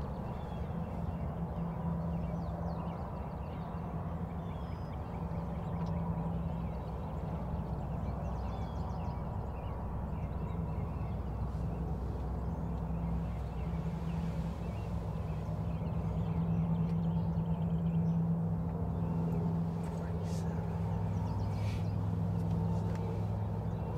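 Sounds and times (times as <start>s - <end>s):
constant hum: 0.0s - 23.9s
small birds chirping: 0.0s - 23.9s.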